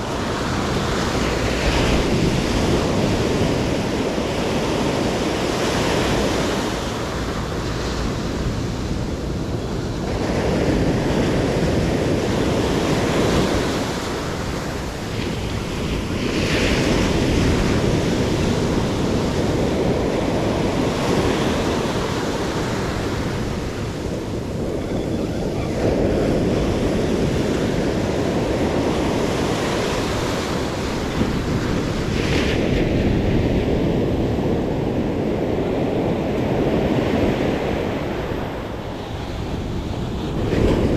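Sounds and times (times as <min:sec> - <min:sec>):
surf breaking on beach: 0:00.0 - 0:40.9
wind buffeting microphone: 0:00.0 - 0:40.9.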